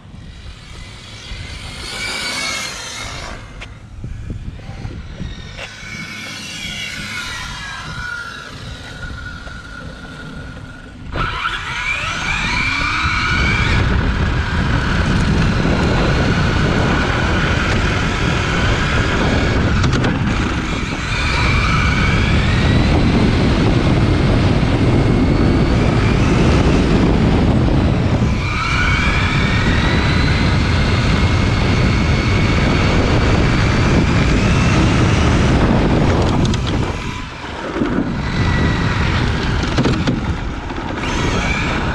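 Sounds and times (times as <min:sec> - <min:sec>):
electric motor whine: 0:00.0 - 0:41.9
tyre and wind noise: 0:00.0 - 0:41.9.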